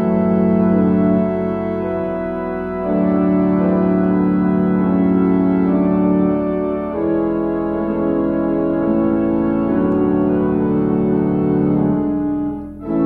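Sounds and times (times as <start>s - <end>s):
pipe organ playing chords: 0.0s - 13.0s.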